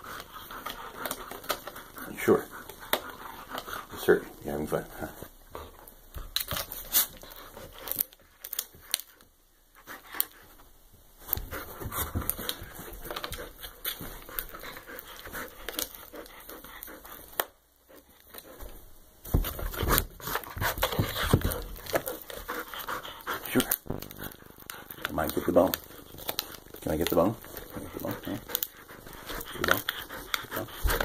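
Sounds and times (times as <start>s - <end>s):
dog gnawing a bone: 0.0s - 4.2s, 5.6s - 9.2s, 11.2s - 18.7s, 19.3s - 31.0s.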